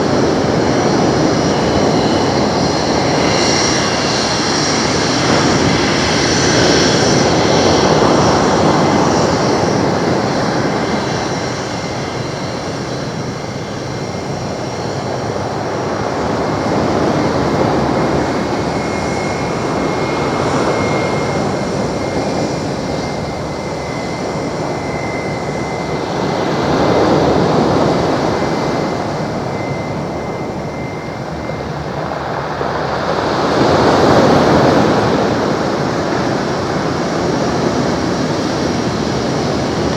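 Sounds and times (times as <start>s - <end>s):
jet engines roaring: 0.0s - 39.9s
thin steady whine: 0.0s - 39.9s.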